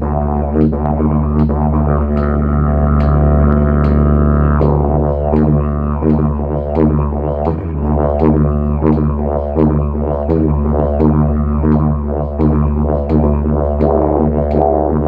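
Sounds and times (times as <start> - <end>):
didgeridoo drone: 0.0 - 15.0.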